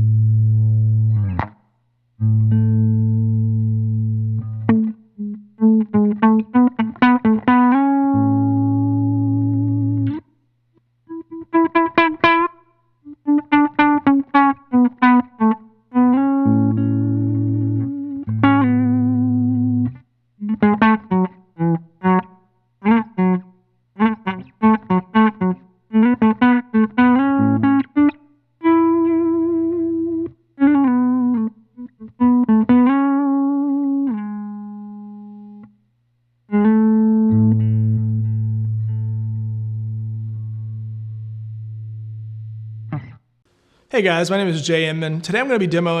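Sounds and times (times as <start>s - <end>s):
electric guitar through effects pedal: 0.0s - 1.6s, 2.2s - 10.2s, 11.1s - 23.4s, 24.0s - 35.8s, 36.5s - 43.2s.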